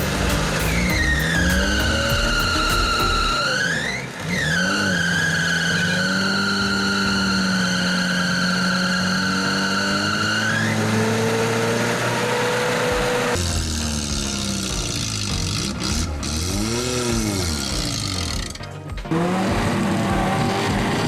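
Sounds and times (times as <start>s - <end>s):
off-road vehicle engine whining: 0.0s - 21.0s.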